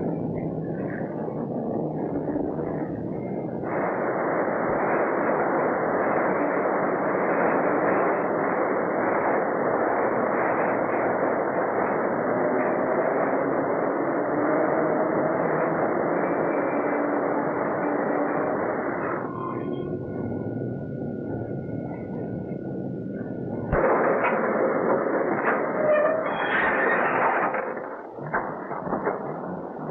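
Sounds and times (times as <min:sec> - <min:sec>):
elevated train roaring: 0:00.0 - 0:29.9.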